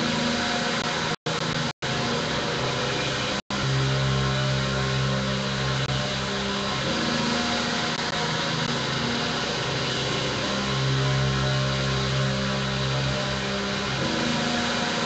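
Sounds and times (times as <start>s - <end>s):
drone guitar: 0.0s - 15.0s.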